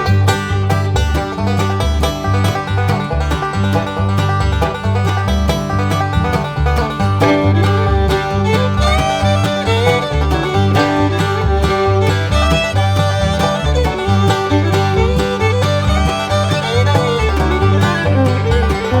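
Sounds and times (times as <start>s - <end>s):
fiddle melody: 0.0s - 19.0s
guitar: 0.0s - 19.0s
plucked banjo: 0.0s - 19.0s
steady bass line: 0.0s - 19.0s.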